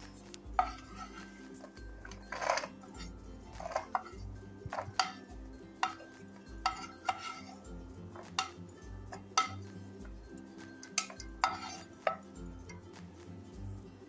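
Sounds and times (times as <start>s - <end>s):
metal spoon scraping a pan: 0.0s - 12.8s.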